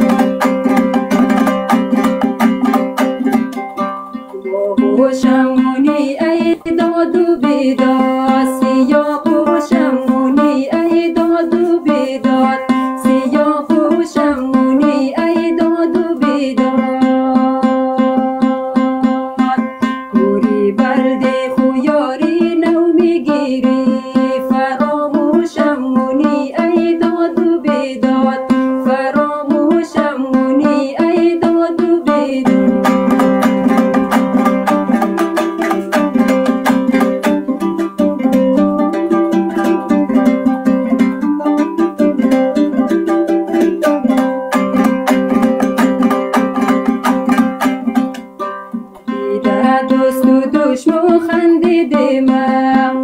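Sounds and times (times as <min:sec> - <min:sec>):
lute strummed and plucked: 0:00.0 - 0:53.0
woman singing: 0:04.2 - 0:48.1, 0:49.0 - 0:53.0.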